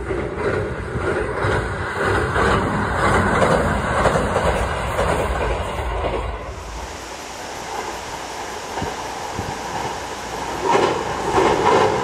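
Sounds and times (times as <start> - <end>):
train rumbling across steel bridge: 0.0 - 12.0.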